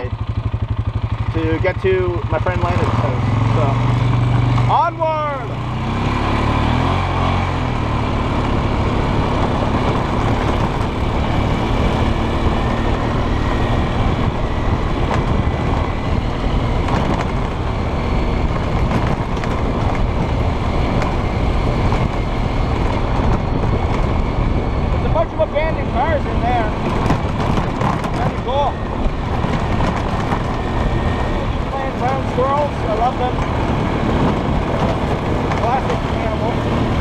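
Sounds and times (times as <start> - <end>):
atv engine running: 0.0 - 37.0
steady rushing noise: 0.0 - 37.0.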